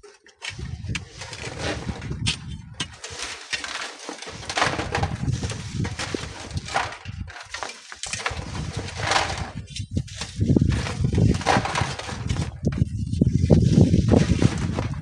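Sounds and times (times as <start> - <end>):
wind buffeting microphone: 0.5 - 3.1, 4.3 - 7.4, 8.1 - 15.0.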